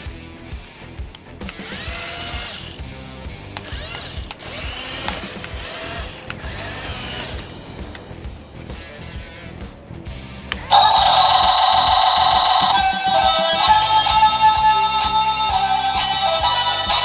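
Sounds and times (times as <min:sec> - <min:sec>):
background music: 0:00.0 - 0:17.0
small electric motors whining: 0:01.4 - 0:02.8, 0:03.6 - 0:09.7, 0:10.5 - 0:17.0.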